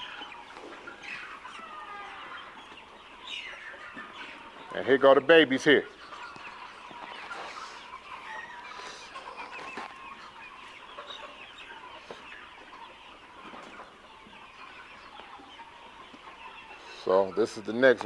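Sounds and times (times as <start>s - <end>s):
chicks chirping and clucking: 0.0s - 18.0s.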